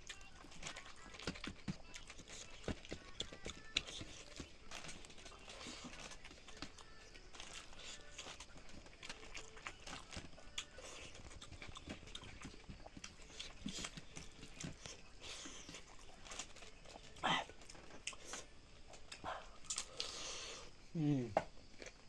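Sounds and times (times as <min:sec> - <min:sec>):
person chewing food: 0:00.0 - 0:20.9, 0:21.5 - 0:22.0.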